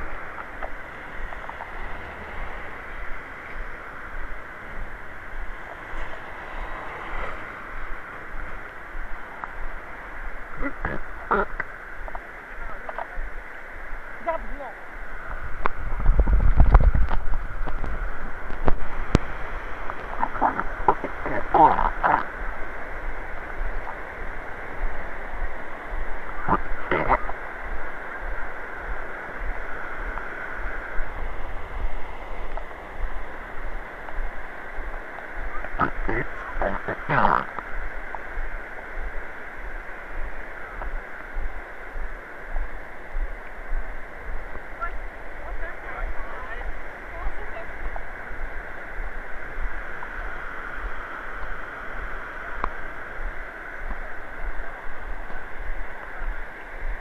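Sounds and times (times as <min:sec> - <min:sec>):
river water rushing over rapids: 0:00.0 - 0:57.0
wind rumble on microphone: 0:00.0 - 0:57.0.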